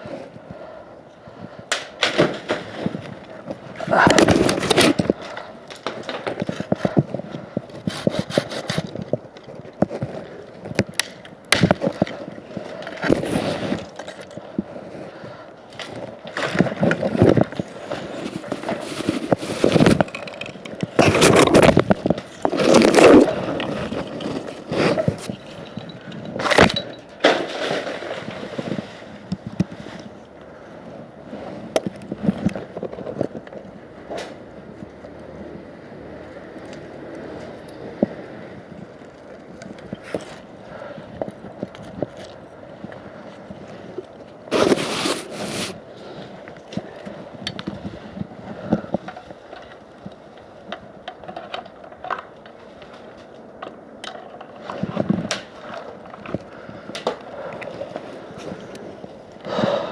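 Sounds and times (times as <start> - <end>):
wood scraping and cracking: 0.0 - 59.9.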